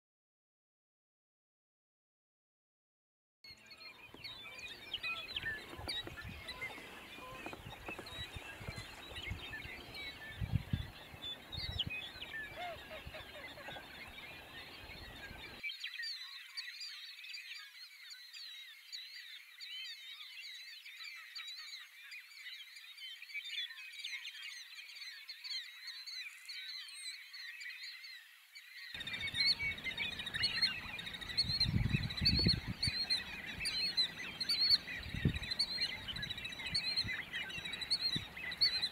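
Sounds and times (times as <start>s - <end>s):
waterfowl and birds calling: 3.5s - 28.2s, 28.8s - 38.9s.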